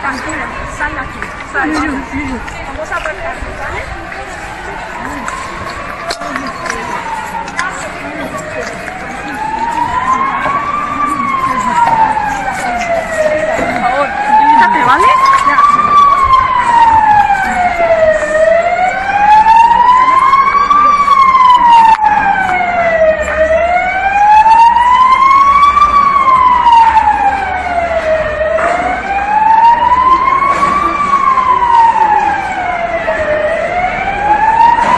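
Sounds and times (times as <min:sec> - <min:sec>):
emergency vehicle siren wailing: 0:00.0 - 0:34.9.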